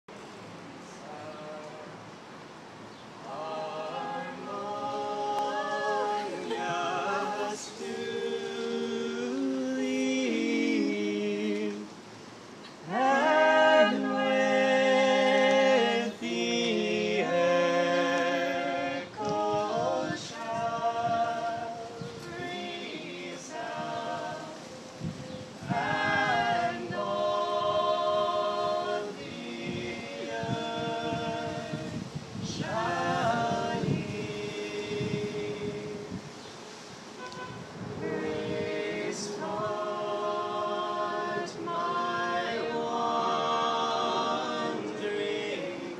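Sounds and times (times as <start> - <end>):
a cappella trio singing in harmony: 0.9 - 2.2, 2.9 - 45.9.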